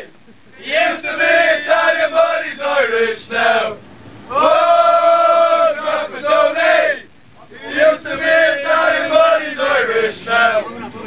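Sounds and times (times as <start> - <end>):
football fans chanting: 0.0 - 11.0.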